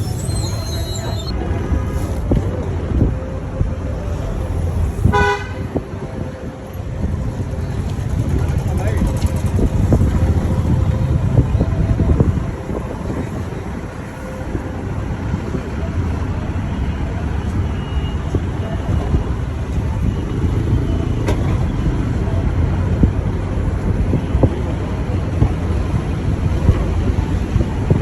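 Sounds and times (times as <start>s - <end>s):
road noise: 0.0s - 28.0s
vehicle engine rumble: 0.0s - 28.0s.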